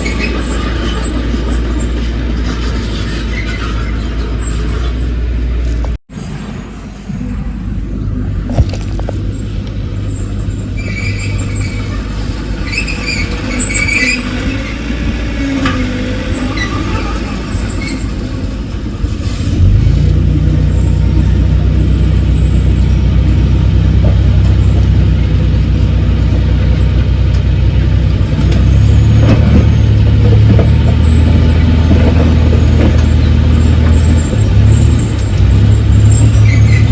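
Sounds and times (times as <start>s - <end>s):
heavy diesel engine droning: 0.0s - 36.9s.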